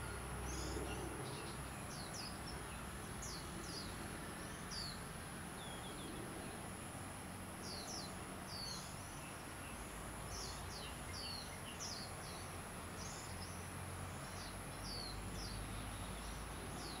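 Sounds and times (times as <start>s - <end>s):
small birds chirping: 0.0s - 6.8s, 7.6s - 17.0s
faint outdoor background noise: 0.0s - 17.0s.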